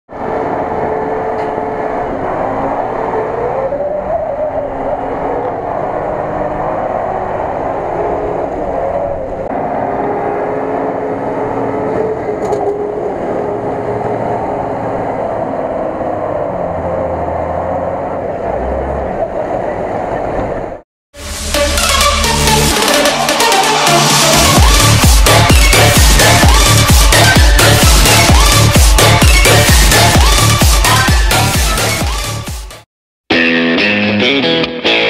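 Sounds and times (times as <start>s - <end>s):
truck engine working hard: 0.1s - 32.8s.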